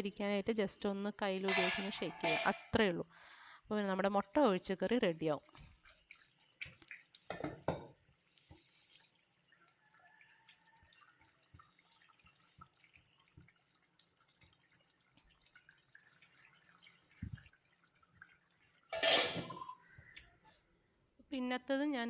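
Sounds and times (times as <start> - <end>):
gravy simmering with bubbles: 1.5 - 21.2.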